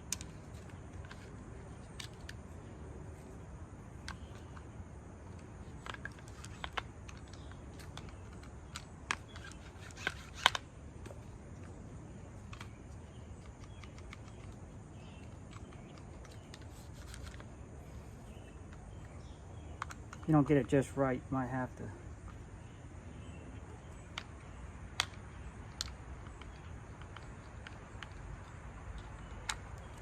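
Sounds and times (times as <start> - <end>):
small plastic parts clicking: 0.0 - 2.5, 4.0 - 11.8, 12.4 - 20.3, 23.9 - 30.0
low steady background: 0.0 - 30.0.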